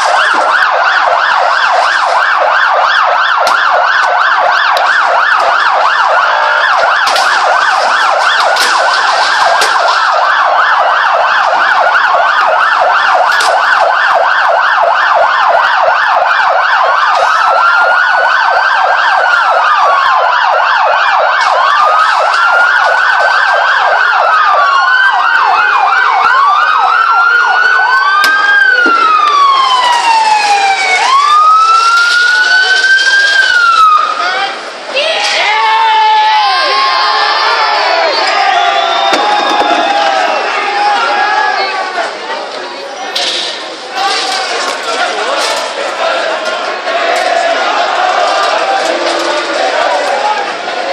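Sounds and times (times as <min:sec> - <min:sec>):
police sirens wailing: 0:00.0 - 0:50.9
police sirens yelping: 0:00.0 - 0:50.9.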